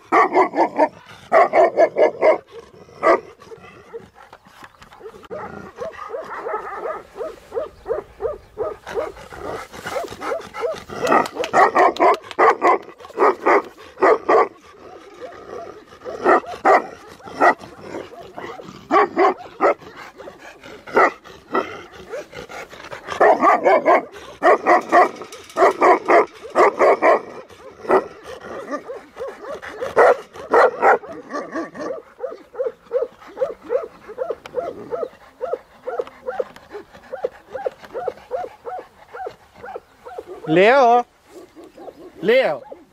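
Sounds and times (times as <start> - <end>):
dogs barking: 0.0 - 42.9.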